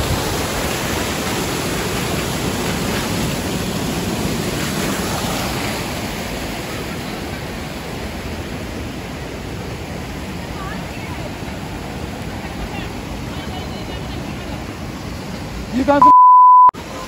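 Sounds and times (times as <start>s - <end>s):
waterfall rushing: 0.0s - 16.0s, 16.8s - 17.0s.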